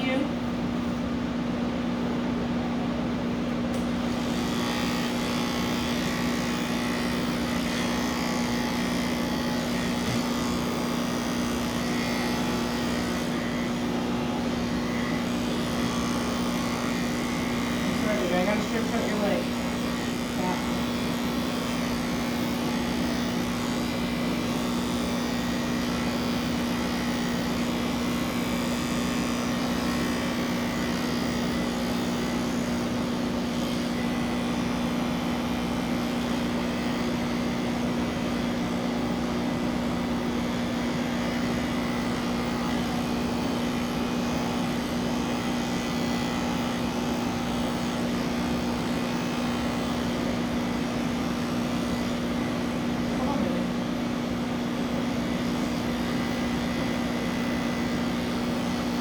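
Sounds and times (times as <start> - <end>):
electric clippers humming: 0.0 - 59.0.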